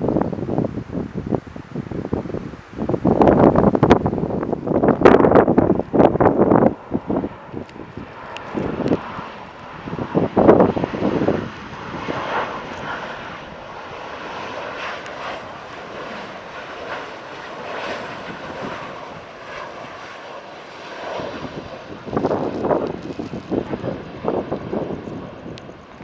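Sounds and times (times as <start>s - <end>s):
distant jet engine drone: 0.0s - 26.0s
wind buffeting microphone: 0.0s - 26.0s.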